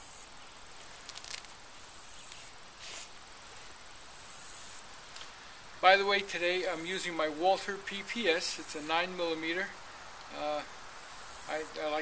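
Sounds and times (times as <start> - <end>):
faint steady hiss: 0.0 - 12.0
insects trilling: 0.0 - 12.0.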